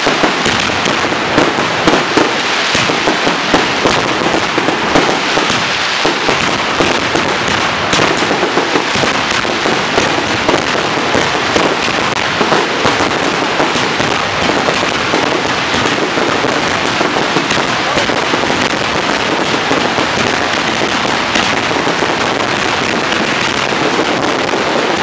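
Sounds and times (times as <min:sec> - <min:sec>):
fireworks crackling and banging: 0:00.0 - 0:25.0.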